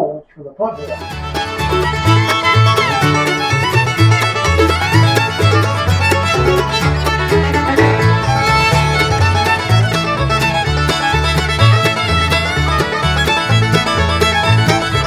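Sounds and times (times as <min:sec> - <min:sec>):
banjo: 0:00.8 - 0:15.0
fiddle: 0:00.8 - 0:15.0
walking bass line: 0:00.8 - 0:15.0.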